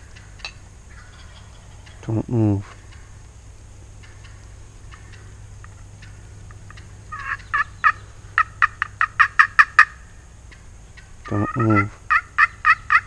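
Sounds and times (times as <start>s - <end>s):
turkey yelping: 0.0s - 2.0s, 4.0s - 13.0s.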